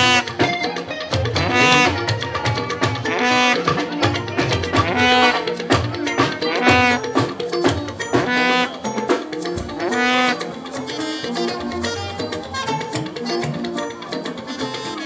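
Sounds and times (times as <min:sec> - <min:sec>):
drums and percussion: 0:00.0 - 0:15.0
wavering high melody: 0:00.0 - 0:15.0.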